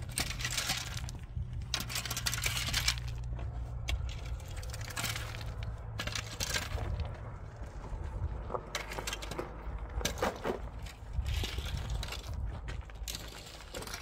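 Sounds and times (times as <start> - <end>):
stones rattling against tines: 0.0 - 7.2, 8.5 - 14.0
metal rake scraping stony soil: 0.0 - 7.8, 8.5 - 14.0
low steady hum: 0.0 - 14.0.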